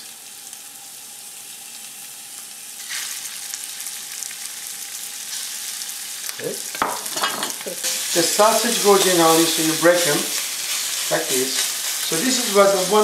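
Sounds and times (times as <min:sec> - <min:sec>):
sausage sizzling in a skillet: 0:00.0 - 0:13.0.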